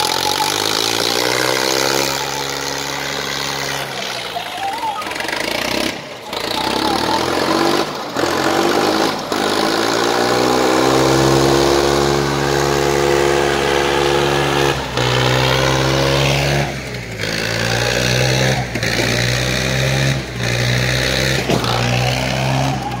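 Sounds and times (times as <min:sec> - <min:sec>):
tractor engines at high revs: 0:00.0 - 0:23.0.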